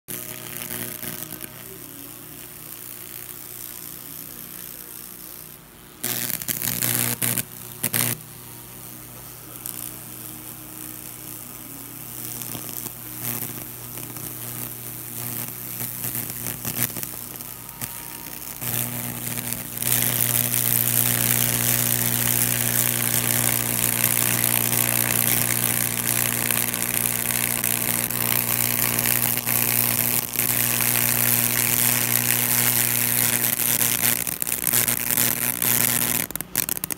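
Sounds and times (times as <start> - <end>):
electrical hum: 0.1 - 36.9
sizzling crackle of burning wood: 0.1 - 36.9
loud short electrical bursts: 0.2 - 36.9.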